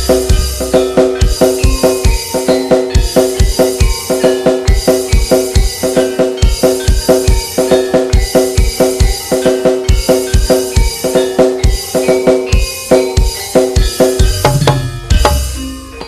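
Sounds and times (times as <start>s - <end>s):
electronic drum beat: 0.0s - 16.0s
metallophone tones ringing: 0.0s - 16.0s.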